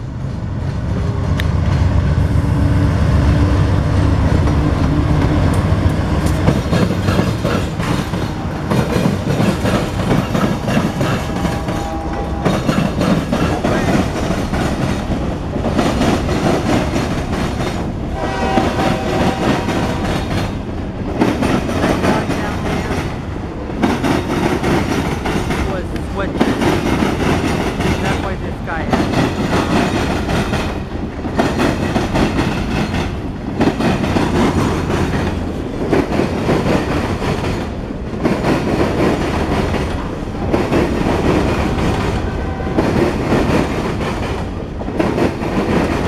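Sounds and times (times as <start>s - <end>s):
diesel locomotive engines rumbling: 0.0s - 46.0s
freight cars rolling on rails: 0.0s - 46.0s.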